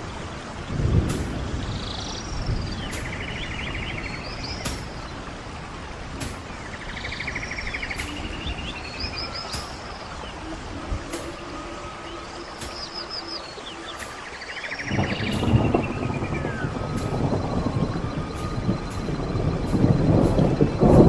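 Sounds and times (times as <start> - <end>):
birds calling: 0.0 - 21.0
rain hiss: 0.0 - 21.0
rapid bird trill: 1.1 - 5.3, 6.2 - 21.0.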